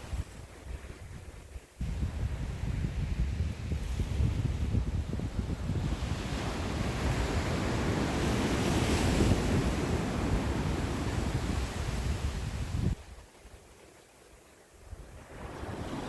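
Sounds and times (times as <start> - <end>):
wind buffeting microphone: 0.0 - 13.3
sea waves breaking on shore: 0.0 - 14.3, 14.9 - 16.0.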